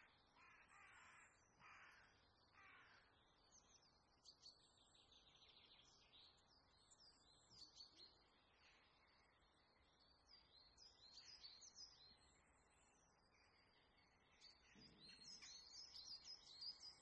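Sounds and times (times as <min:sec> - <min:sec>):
faint birds twittering: 0:00.0 - 0:17.0.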